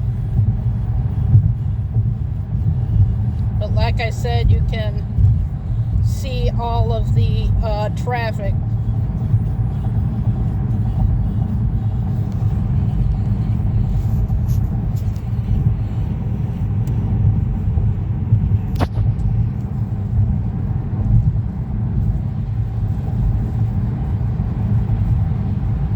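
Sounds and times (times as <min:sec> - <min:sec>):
car driving interior rumble: 0:00.0 - 0:25.9.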